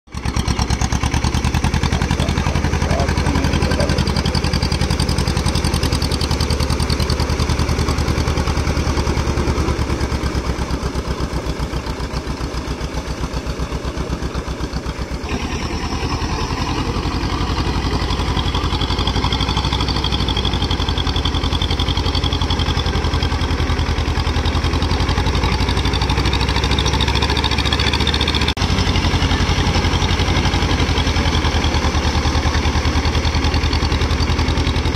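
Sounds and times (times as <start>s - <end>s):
diesel tractor engines chugging: 0.1s - 34.9s.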